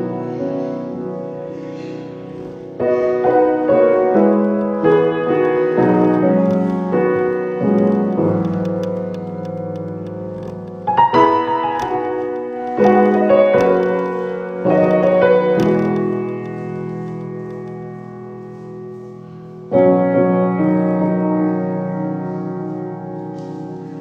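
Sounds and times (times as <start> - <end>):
slow piano chords: 0.0 - 24.0.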